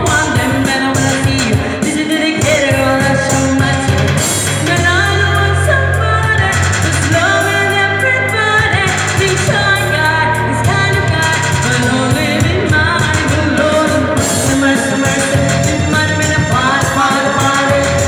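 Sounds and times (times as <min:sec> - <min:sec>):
woman singing into microphone: 0:00.0 - 0:18.0.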